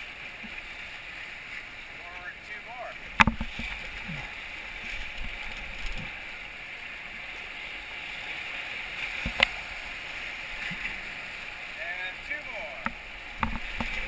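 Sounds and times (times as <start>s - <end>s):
paddles splashing in water: 0.0s - 14.0s
whitewater rapids rushing: 0.0s - 14.0s.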